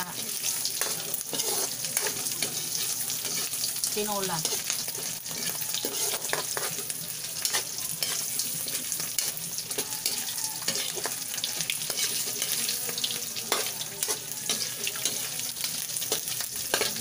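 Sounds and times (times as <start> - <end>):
fish sizzling in oil: 0.0 - 17.0
metal spatula scraping wok: 0.0 - 17.0.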